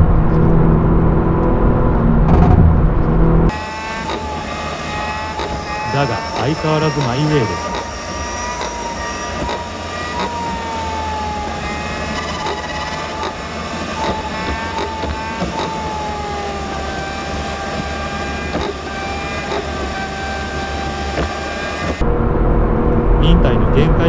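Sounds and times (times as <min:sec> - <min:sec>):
sped-up car engine whine: 0:00.0 - 0:24.0.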